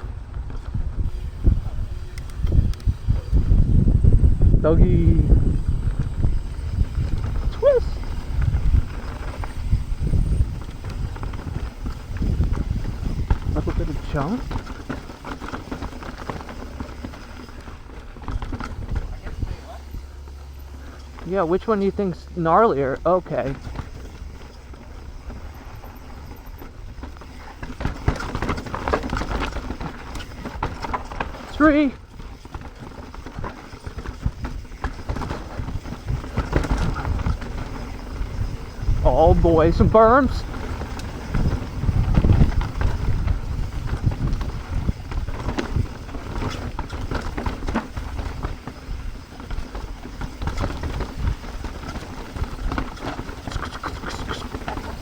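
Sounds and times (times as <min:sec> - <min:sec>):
bike clattering over rough ground: 0:00.0 - 0:55.0
mountain bike rolling on dirt: 0:00.0 - 0:55.0
wind buffeting microphone: 0:00.0 - 0:55.0
tyre noise: 0:00.3 - 0:55.0.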